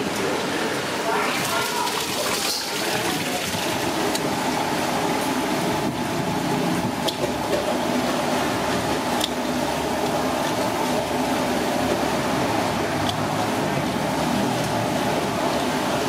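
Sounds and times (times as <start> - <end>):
mechanical background hum: 0.0 - 16.0.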